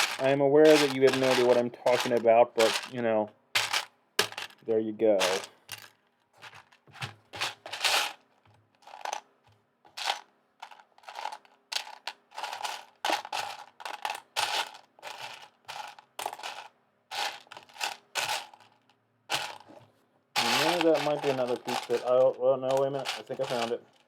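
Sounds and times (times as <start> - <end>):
plastic bricks clattering: 0.0 - 3.0, 3.6 - 4.6, 5.2 - 8.2, 8.8 - 9.2, 9.9 - 19.8, 20.4 - 24.0.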